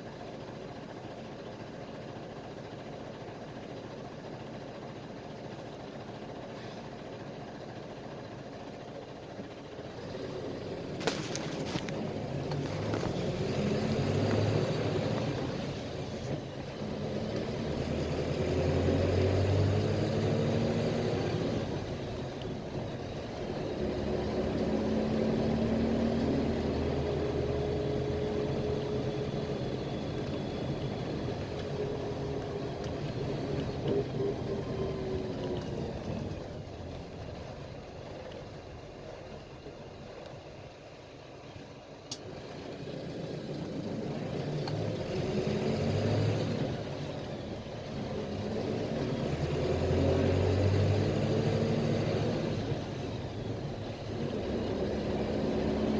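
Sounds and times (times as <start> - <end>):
bus engine running: 0.0 - 55.9
road noise: 0.0 - 55.9.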